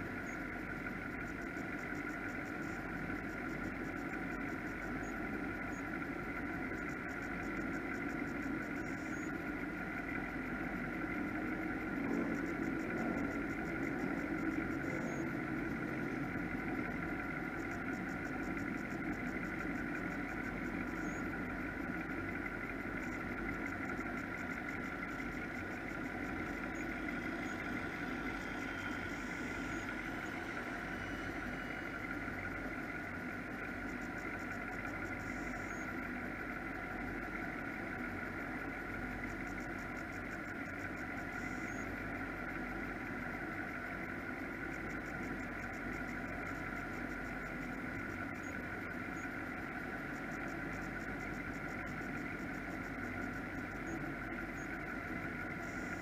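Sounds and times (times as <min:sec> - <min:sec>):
powerboat engines idling: 0:00.0 - 0:56.0.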